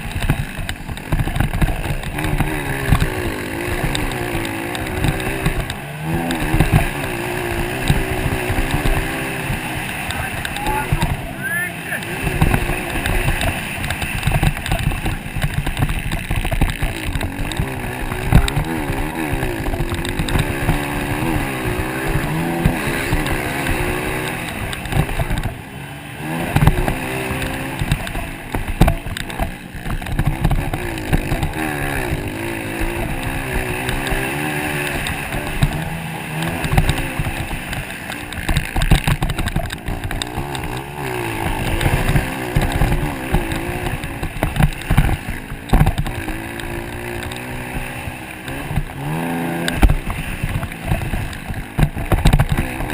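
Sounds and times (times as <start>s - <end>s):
motocross motorcycle engine revving: 0.0s - 52.9s.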